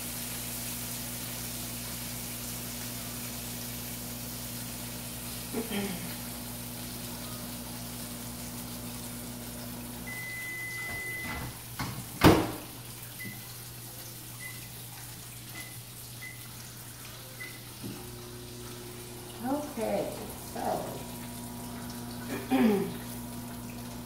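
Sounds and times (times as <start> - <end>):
tap water running into sink: 0.0 - 24.0.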